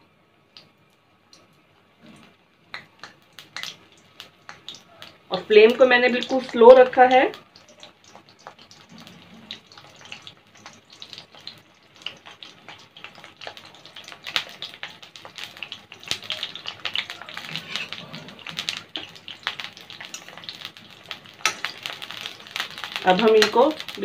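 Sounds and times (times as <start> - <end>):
vegetables frying in hot oil: 2.0 - 24.0
crackling pops of spatter: 2.7 - 8.9, 10.7 - 24.0.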